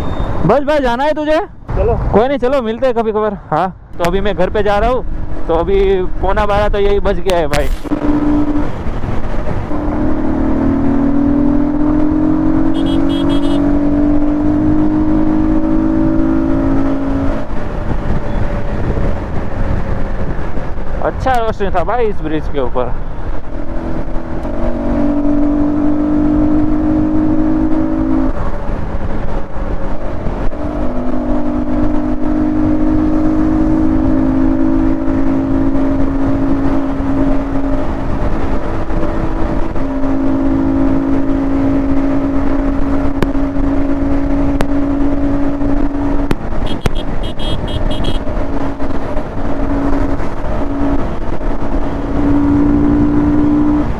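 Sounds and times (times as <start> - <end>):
wind rush on microphone: 0.0 - 53.9
motorcycle engine cruising: 4.6 - 21.8, 23.0 - 53.9.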